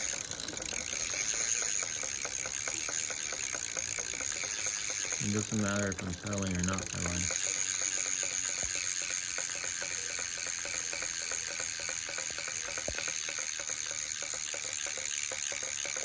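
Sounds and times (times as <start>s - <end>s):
hub motor ticking knock: 0.0s - 16.0s
hub motor whir: 0.0s - 16.0s.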